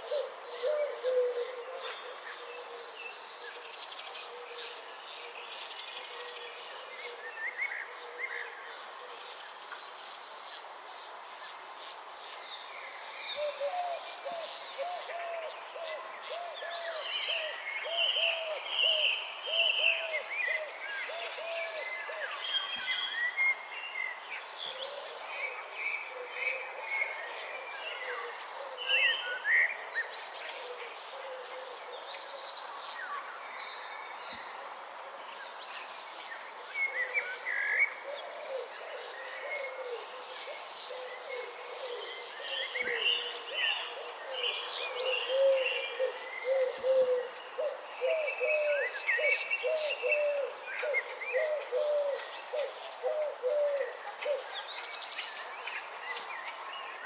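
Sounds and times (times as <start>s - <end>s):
insect buzz: 0.0s - 57.0s.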